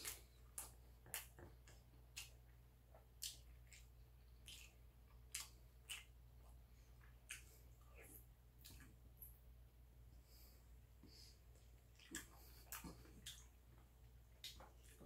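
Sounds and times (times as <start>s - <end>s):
soft chewing clicks and smacks: 0.0s - 9.4s, 11.0s - 15.0s
low steady hum: 0.0s - 15.0s.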